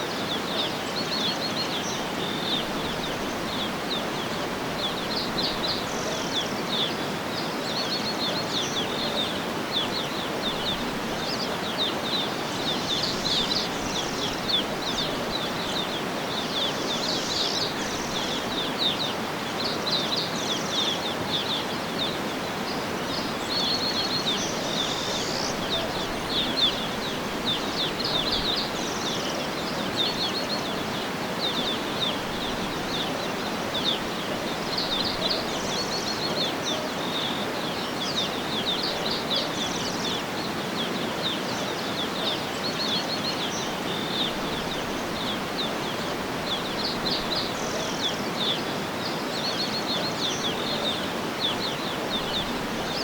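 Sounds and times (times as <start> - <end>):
rushing background hiss: 0.0 - 53.0
small birds chirping: 0.0 - 53.0.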